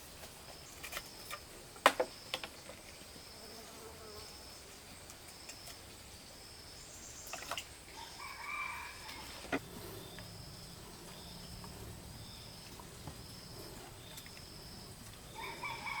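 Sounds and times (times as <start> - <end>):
insect chirping: 0.4 - 16.0.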